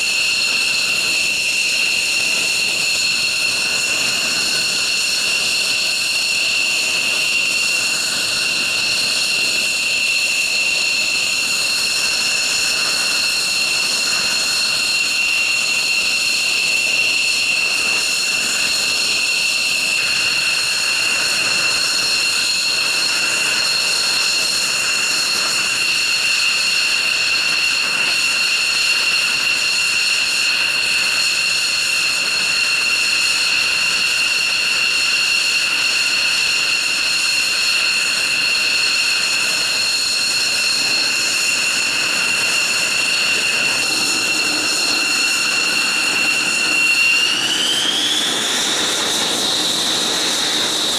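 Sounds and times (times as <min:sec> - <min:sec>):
jet engine idling whine: 0:00.0 - 0:50.9.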